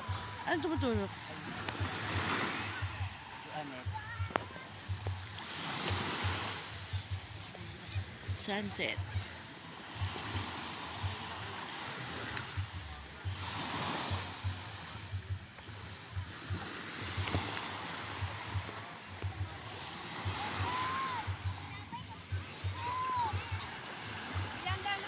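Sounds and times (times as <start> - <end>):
small waves washing onto shore: 0.0 - 25.0.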